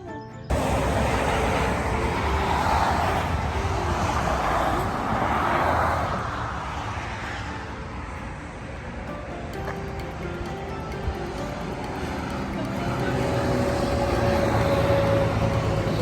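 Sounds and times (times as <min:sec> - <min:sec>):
faint music: 0:00.0 - 0:16.0
road traffic rushing past: 0:00.5 - 0:16.0.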